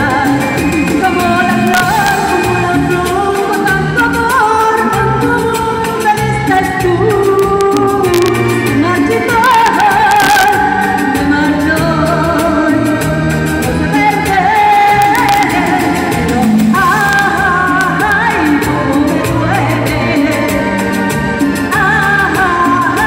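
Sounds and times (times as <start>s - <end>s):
backing music with bass and beat: 0.0s - 23.0s
woman singing into microphone: 0.0s - 23.0s.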